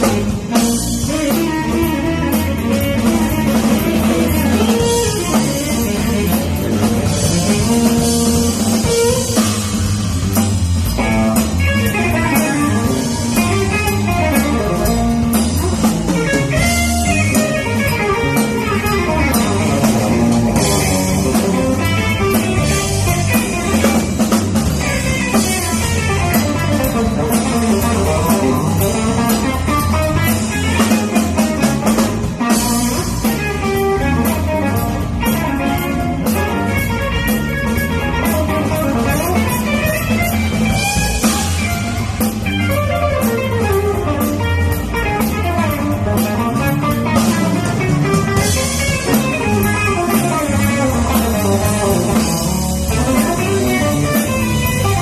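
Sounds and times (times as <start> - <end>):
funk band playing: 0.0 - 55.0.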